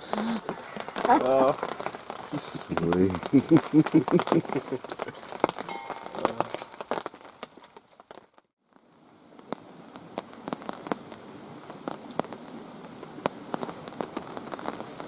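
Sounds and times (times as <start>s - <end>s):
heavy raindrops tapping: 0.0s - 8.5s, 10.0s - 15.0s
steady rain: 0.0s - 15.0s.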